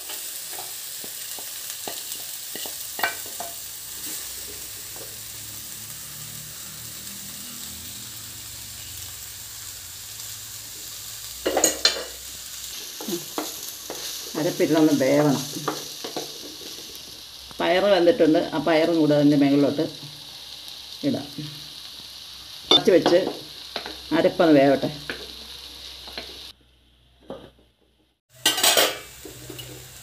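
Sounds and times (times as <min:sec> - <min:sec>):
vegetables sizzling in a frying pan: 0:00.0 - 0:27.6, 0:28.3 - 0:30.0.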